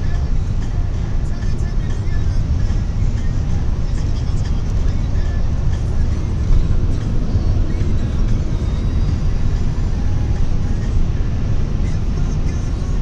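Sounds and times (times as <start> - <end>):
vehicle cabin road rumble: 0.0 - 13.0.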